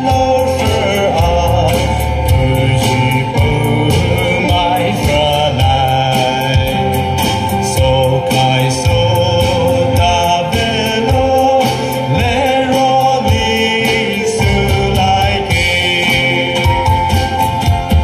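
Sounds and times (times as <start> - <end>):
acoustic guitar: 0.0 - 18.0
keyboard: 0.0 - 18.0
male voices singing together: 0.0 - 18.0
steady beat: 0.0 - 18.0.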